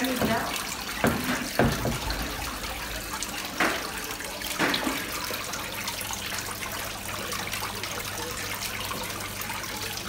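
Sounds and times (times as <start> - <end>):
water running and splashing: 0.0 - 10.0.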